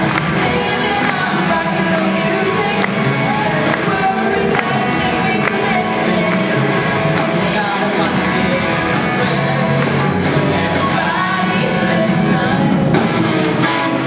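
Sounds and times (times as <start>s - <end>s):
person singing: 0.0s - 14.0s
rock band playing live: 0.0s - 14.0s.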